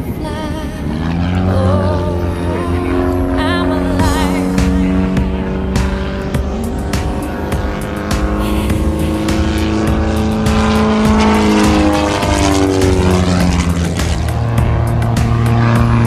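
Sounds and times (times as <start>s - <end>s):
propeller airplane passing: 0.0s - 16.0s.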